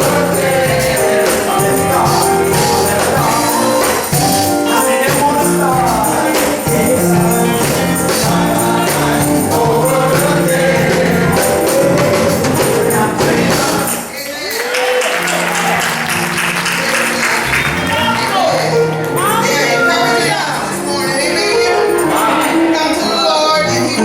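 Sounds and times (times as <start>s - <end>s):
tambourine shaken: 0.0s - 18.5s, 20.6s - 23.2s
band playing: 0.0s - 24.0s
male chorus singing gospel: 0.0s - 24.0s.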